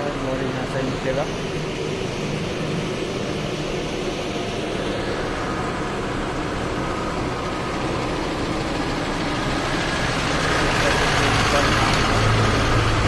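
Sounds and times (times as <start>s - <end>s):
lorry diesel engine running: 0.0s - 13.0s.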